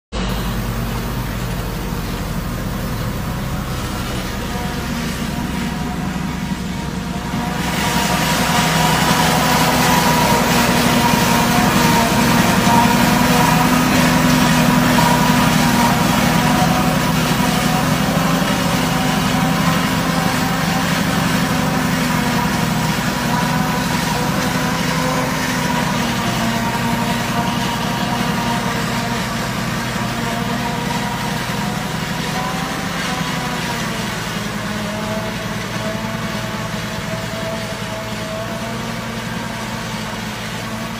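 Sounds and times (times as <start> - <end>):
tractor diesel engine under load: 0.0 - 40.9
harvester whining: 0.1 - 40.9.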